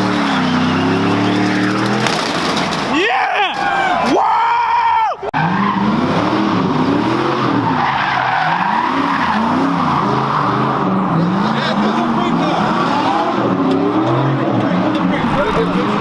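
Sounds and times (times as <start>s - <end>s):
car engine revving: 0.0s - 2.9s, 5.4s - 16.0s
tyres skidding on pavement: 0.0s - 4.2s, 5.4s - 16.0s.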